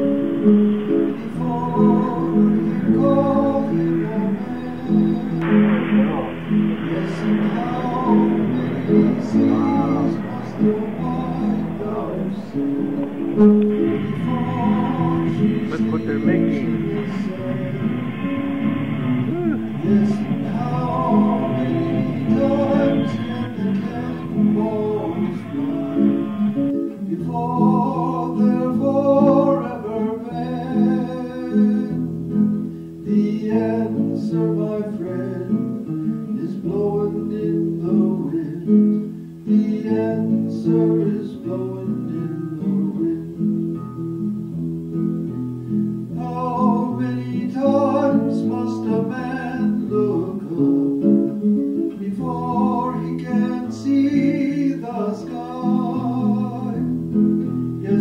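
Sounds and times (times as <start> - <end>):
acoustic guitar strumming chords: 0.0 - 58.0
person singing a folk song: 0.0 - 58.0.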